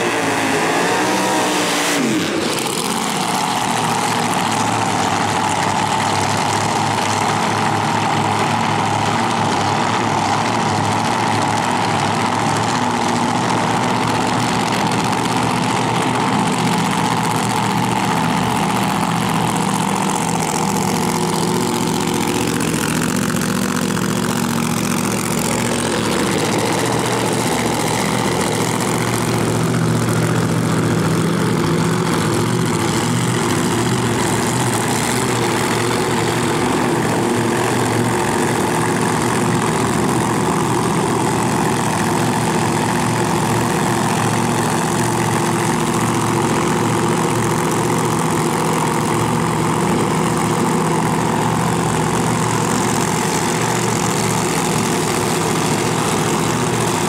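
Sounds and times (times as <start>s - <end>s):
drag car engines idling: 0.0s - 57.0s.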